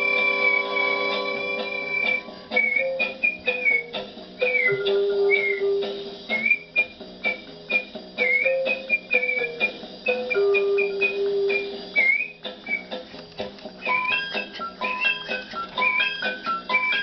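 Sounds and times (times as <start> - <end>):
person whistling a melody: 0.0 - 13.0, 13.8 - 17.0.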